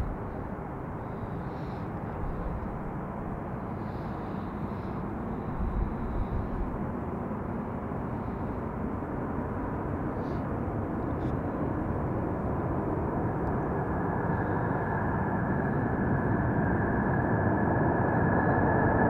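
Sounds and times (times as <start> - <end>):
high engine whine: 0.0 - 19.0
jet engines rumbling: 0.0 - 19.0.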